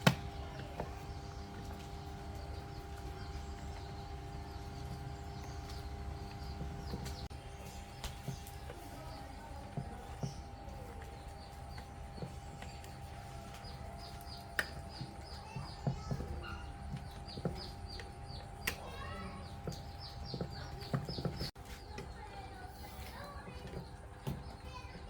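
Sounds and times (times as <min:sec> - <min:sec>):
steady hum: 0:00.0 - 0:21.6
bird chirping: 0:00.0 - 0:25.0.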